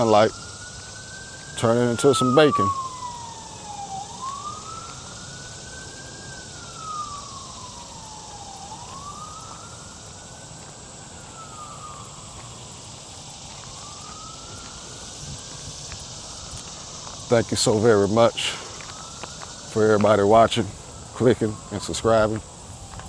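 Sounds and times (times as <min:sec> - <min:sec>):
emergency siren wailing: 0:00.0 - 0:23.0.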